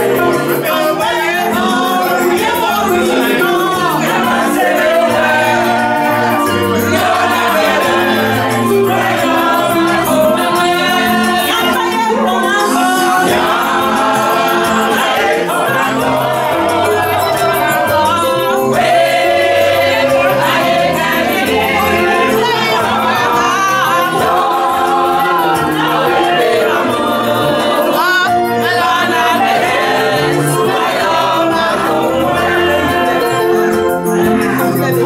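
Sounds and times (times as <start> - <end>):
gospel choir singing: 0.0 - 35.0.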